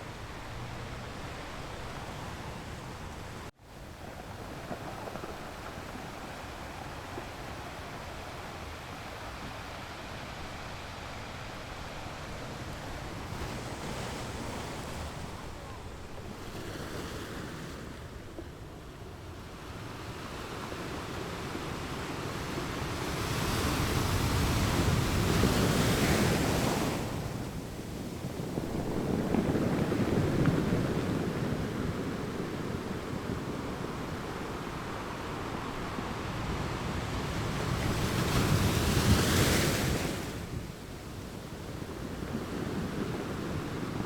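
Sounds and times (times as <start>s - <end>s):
ocean waves breaking: 0.0s - 44.0s.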